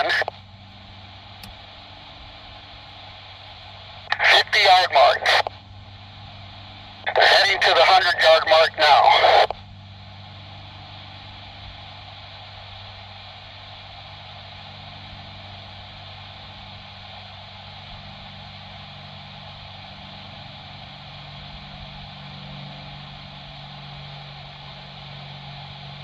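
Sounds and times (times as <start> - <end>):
radio hiss: 0.0 - 26.0
steady low hum: 0.0 - 26.0.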